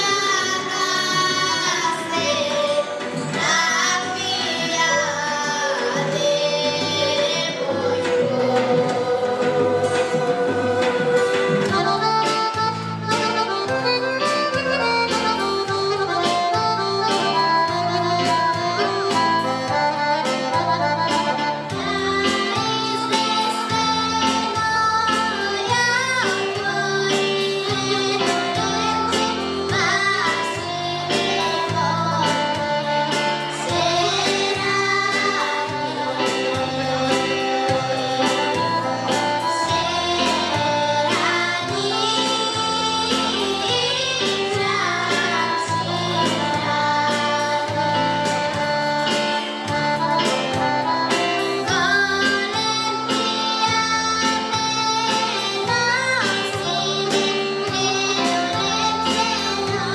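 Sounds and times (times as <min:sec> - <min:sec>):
children singing a folk song: 0:00.0 - 0:59.9
instrumental accompaniment with beat: 0:00.0 - 0:59.9.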